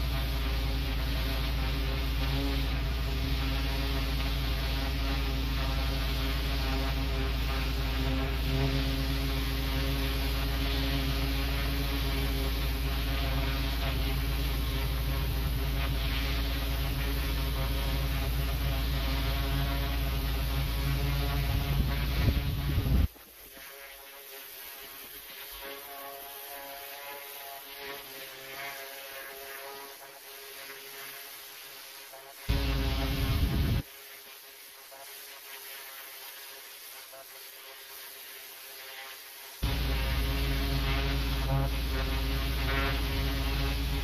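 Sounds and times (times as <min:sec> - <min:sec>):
pressure washer drone: 0:00.0 - 0:44.0
water jet hissing on paving: 0:00.0 - 0:44.0.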